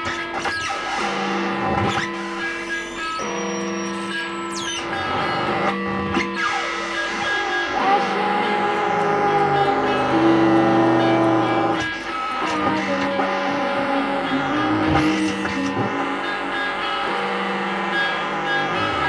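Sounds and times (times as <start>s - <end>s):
sustained noise drones: 0.3s - 19.0s.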